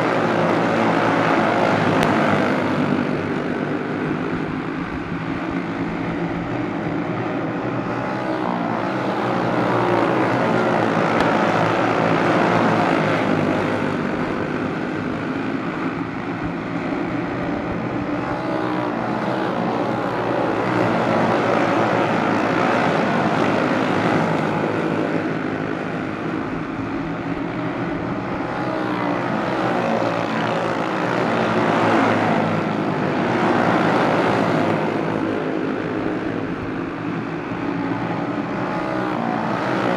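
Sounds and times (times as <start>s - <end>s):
racing kart engines: 0.0s - 39.9s.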